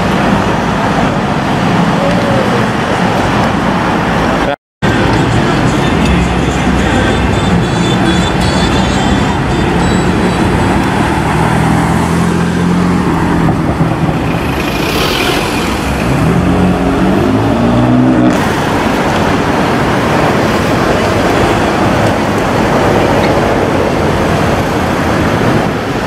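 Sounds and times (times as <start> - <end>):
car engine accelerating: 2.8 - 26.0.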